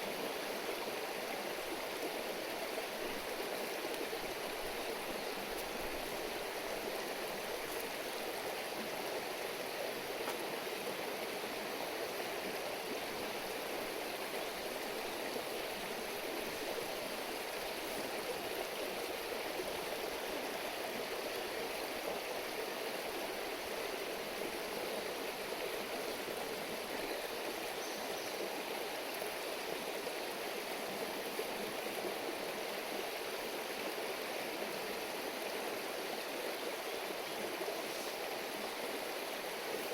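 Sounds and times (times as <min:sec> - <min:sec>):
shallow river babbling: 0:00.0 - 0:39.9.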